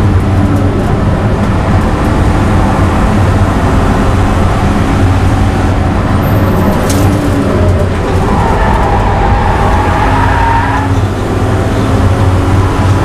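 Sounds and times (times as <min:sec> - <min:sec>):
car engine at high revs: 0:00.0 - 0:13.0
road and wind noise: 0:00.0 - 0:13.0.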